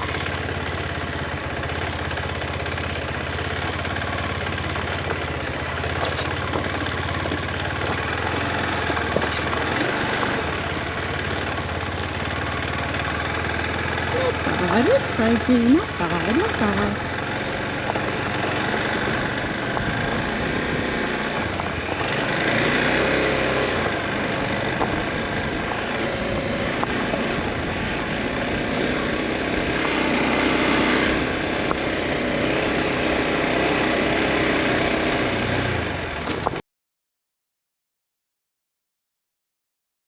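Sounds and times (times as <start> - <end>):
motorcycle engine running: 0.0 - 36.6
wind and road noise: 0.0 - 36.6.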